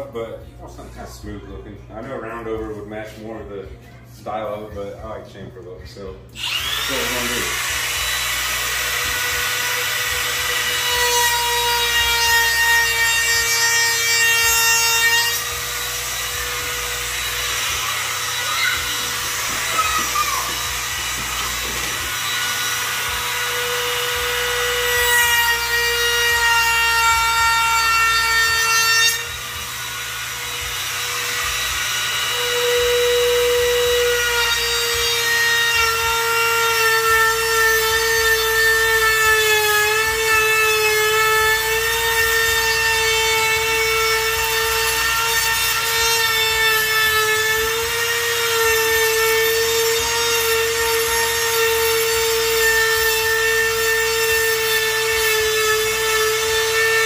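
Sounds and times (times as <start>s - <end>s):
router motor whine: 6.4s - 57.0s.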